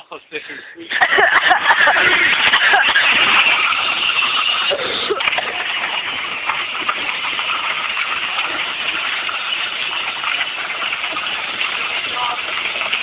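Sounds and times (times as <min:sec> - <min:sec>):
plastic wheels crunching on gravel: 0:01.4 - 0:13.0.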